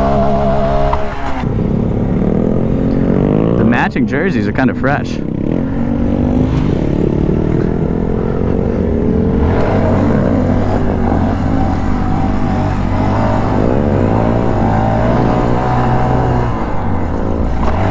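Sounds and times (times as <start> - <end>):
engine pitch rising and falling: 0.0 - 17.9
steady low drone: 0.0 - 17.9
vehicle engines revving: 0.0 - 17.9.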